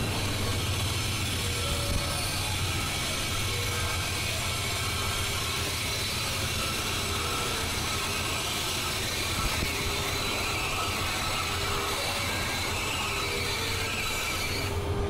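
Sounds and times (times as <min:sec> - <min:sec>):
train cars rolling on rails: 0:00.0 - 0:15.0.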